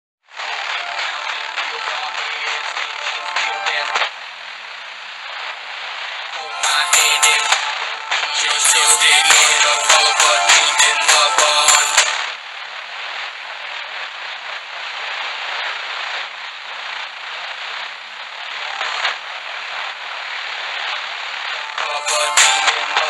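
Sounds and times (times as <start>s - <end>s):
faint radio music: 0.3s - 23.0s
radio static hiss: 0.3s - 23.0s.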